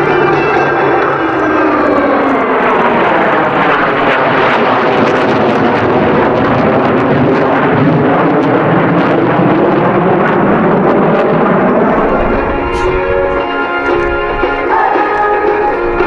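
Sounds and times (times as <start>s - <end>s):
jet aircraft flying over: 0.0s - 16.0s.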